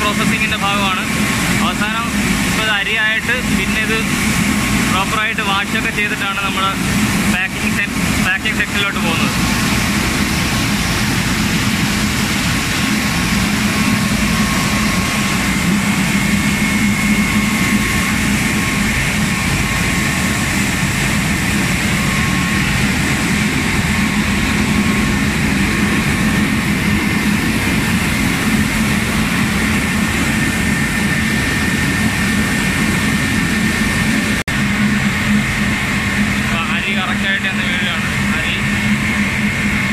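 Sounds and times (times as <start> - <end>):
constant low hum: 0.0 - 39.9
high machine whines: 0.0 - 39.9.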